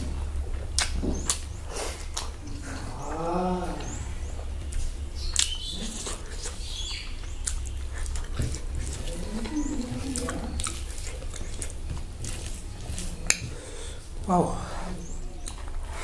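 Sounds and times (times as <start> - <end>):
steady low hum: 0.0 - 16.0
chewing and lip-smacking: 0.2 - 13.9, 15.2 - 16.0.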